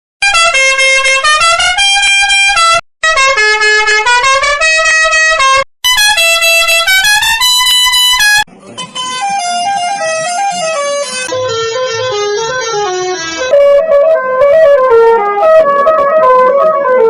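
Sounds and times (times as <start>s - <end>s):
bus horn tune: 0.2s - 17.0s.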